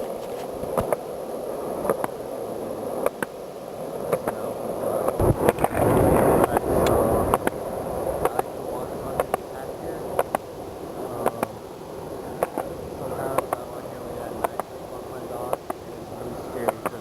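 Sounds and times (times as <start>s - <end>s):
skateboard wheels rolling on pavement: 0.0s - 17.0s.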